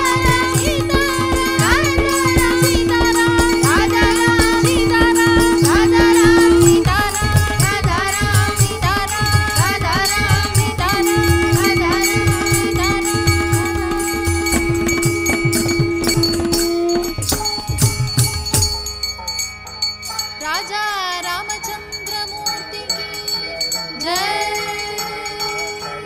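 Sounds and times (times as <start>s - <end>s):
person singing: 0.0s - 17.2s, 20.4s - 26.0s
hand percussion beat: 0.0s - 26.0s.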